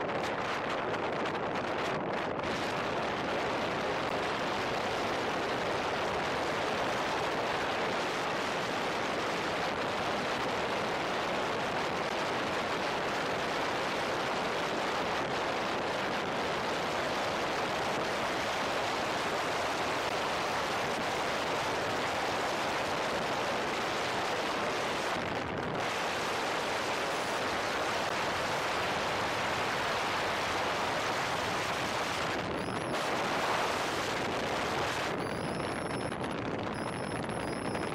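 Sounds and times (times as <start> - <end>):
wind and road noise: 0.0 - 37.9.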